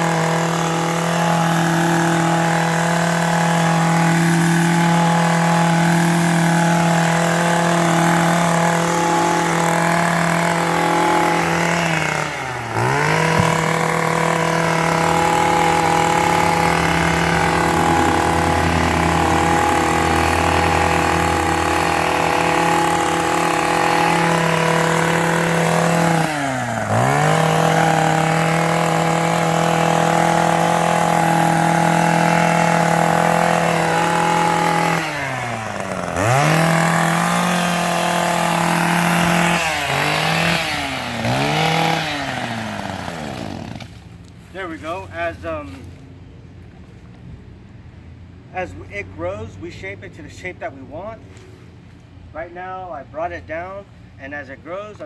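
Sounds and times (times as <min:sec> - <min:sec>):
hedge trimmer engine running: 0:00.0 - 0:46.1.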